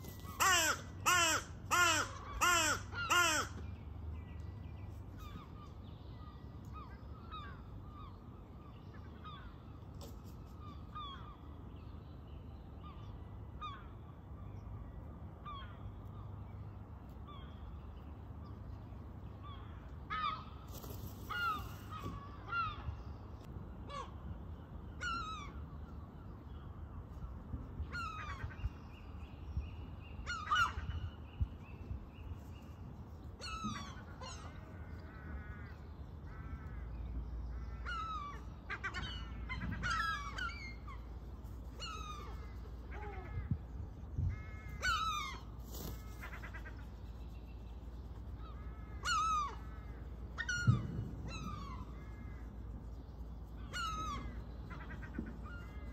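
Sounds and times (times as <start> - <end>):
gulls and crows calling: 0.0 - 11.9, 15.4 - 16.6, 17.2 - 55.9
steady low rumble: 0.0 - 55.9.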